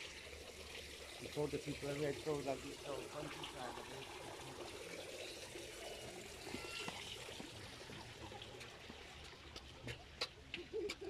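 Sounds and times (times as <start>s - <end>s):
fountain water splashing into basin: 0.0s - 11.0s.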